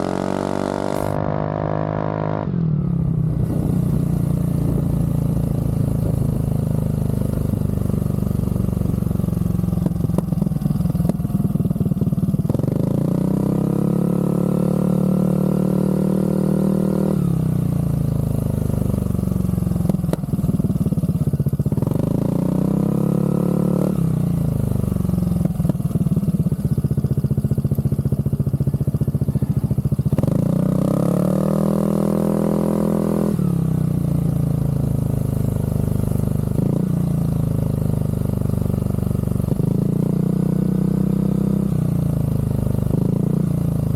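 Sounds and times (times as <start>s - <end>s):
scooter engine idling and revving: 0.0s - 43.9s.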